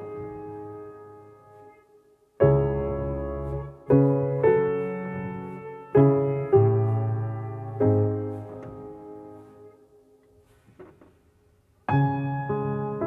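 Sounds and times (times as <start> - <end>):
slow calm piano music: 0.0 - 13.0.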